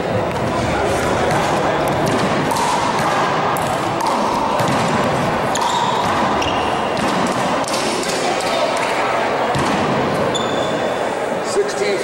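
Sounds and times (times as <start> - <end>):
hall background noise: 0.0 - 12.0
ball slapping and bouncing: 0.2 - 10.3.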